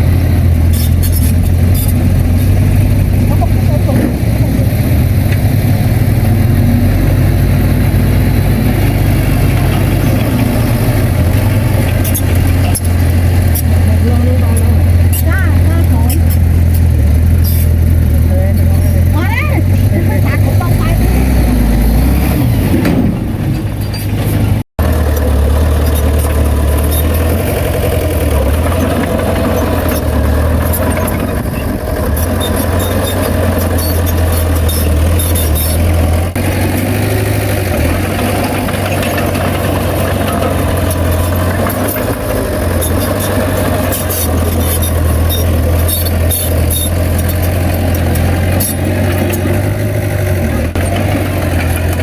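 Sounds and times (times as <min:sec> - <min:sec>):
heavy diesel engine running: 0:00.0 - 0:52.0
sharp clicks and rattles: 0:08.4 - 0:21.0, 0:22.8 - 0:52.0.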